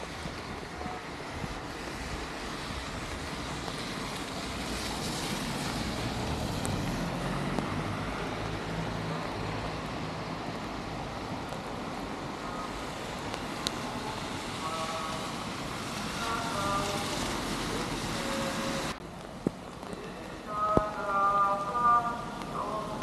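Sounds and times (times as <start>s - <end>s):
car tyres hissing on wet road: 0.0s - 20.4s.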